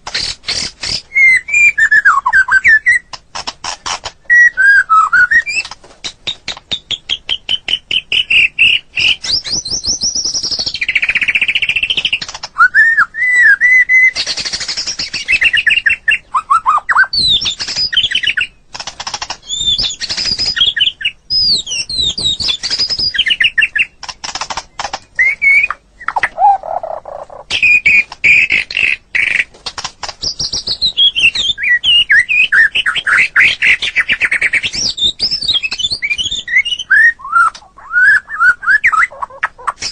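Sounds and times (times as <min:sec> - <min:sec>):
songbird singing varied song: 0:00.2 - 0:03.2, 0:04.2 - 0:18.7, 0:19.4 - 0:24.1, 0:24.7 - 0:29.5, 0:30.1 - 0:39.9.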